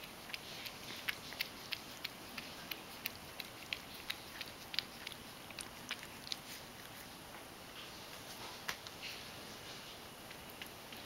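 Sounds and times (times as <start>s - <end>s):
cat lapping milk: 0.0s - 7.8s, 8.8s - 11.0s.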